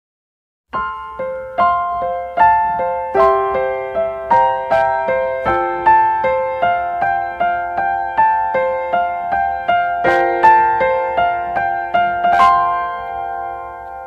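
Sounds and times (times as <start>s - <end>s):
gentle piano music: 0.7s - 14.0s.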